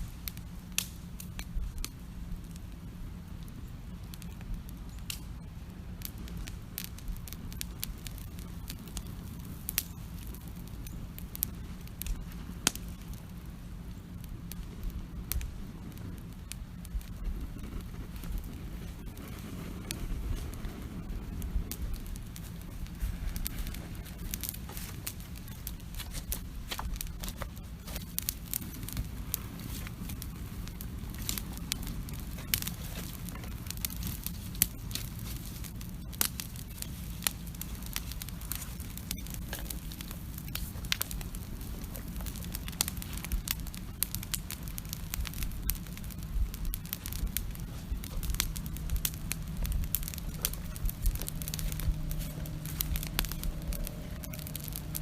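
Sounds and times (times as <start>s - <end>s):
campfire crackling and popping: 0.0s - 55.0s
low steady rumble: 0.0s - 55.0s.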